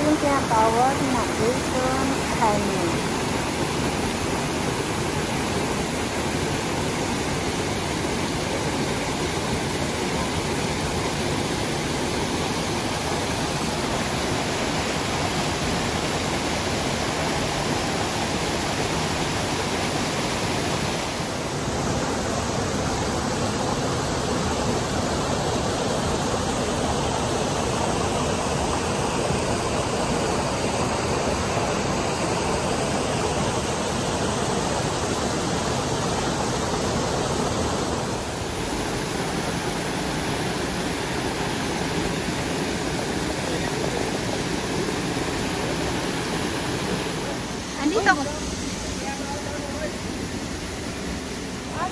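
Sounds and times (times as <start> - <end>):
creek rushing over boulders: 0.0 - 51.9.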